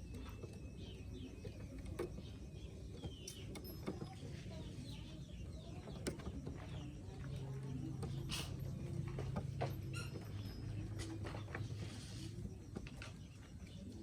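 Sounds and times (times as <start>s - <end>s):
faint high bird chirps: 0.0s - 14.0s.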